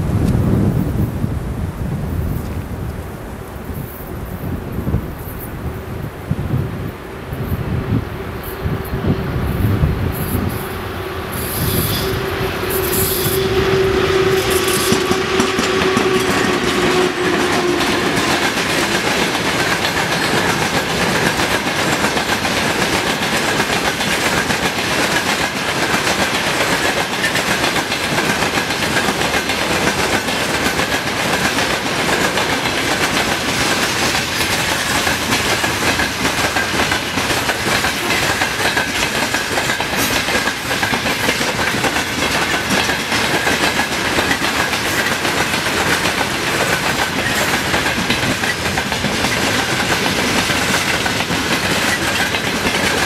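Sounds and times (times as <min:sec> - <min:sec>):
railway wagons rolling over rail joints: 0:04.7 - 0:53.0.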